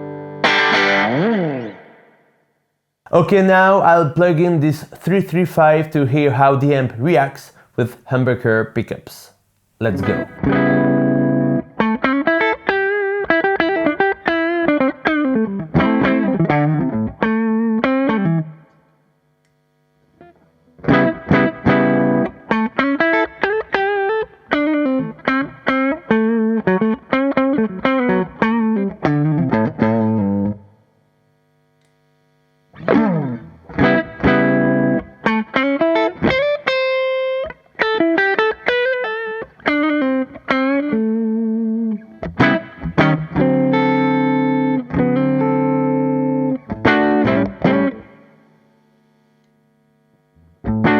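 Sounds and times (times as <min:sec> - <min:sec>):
overdriven electric guitar: 0:00.0 - 0:02.5, 0:09.8 - 0:50.9.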